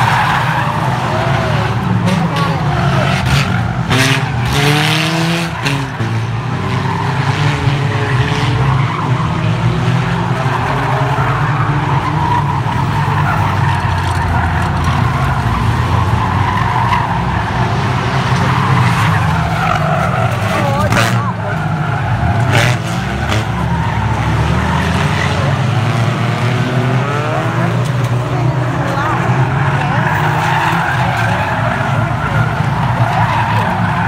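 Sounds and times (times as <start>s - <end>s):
car engine revving: 0.0s - 34.0s
racing car engines: 0.0s - 34.0s.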